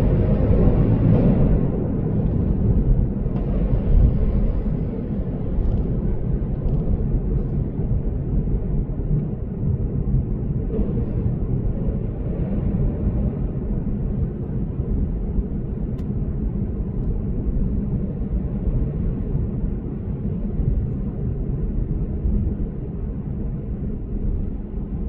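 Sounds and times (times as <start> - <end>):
road and tyre noise: 0.0 - 25.0.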